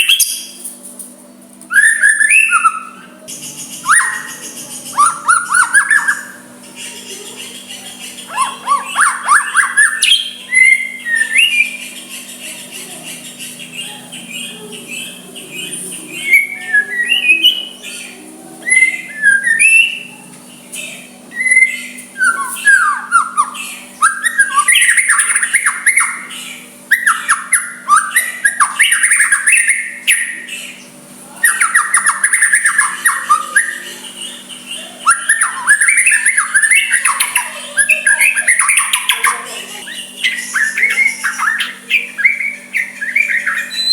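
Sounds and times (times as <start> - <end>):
bird singing whistled notes: 1.7 - 6.5, 8.3 - 12.2, 14.4 - 18.1, 18.7 - 20.1, 20.8 - 43.9.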